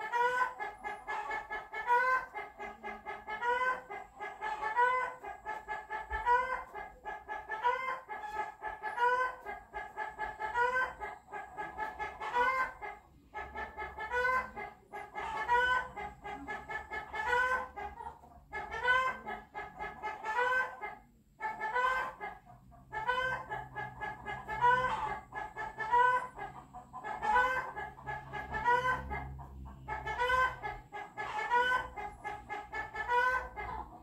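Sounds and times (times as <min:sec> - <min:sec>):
chicken clucking: 0:00.0 - 0:34.0.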